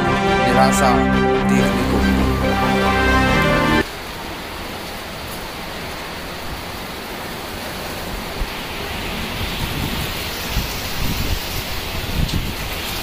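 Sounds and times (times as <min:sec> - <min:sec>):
heavy rain hissing: 0:01.6 - 0:13.0.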